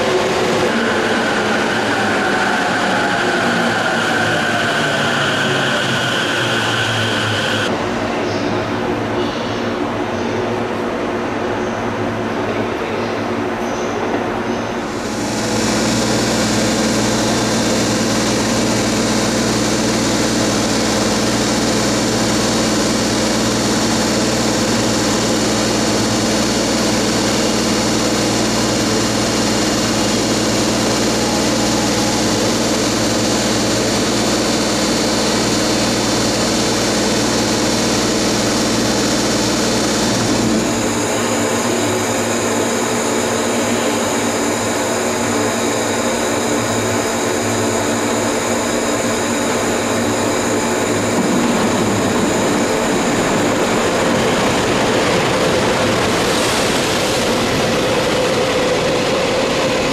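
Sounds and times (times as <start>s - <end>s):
electric locomotive whine: 0.0s - 59.9s
train noise: 0.0s - 59.9s.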